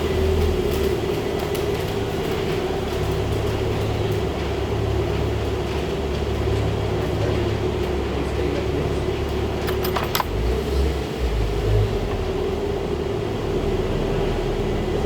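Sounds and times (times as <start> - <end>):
mechanical hum with low rumble: 0.0 - 15.0.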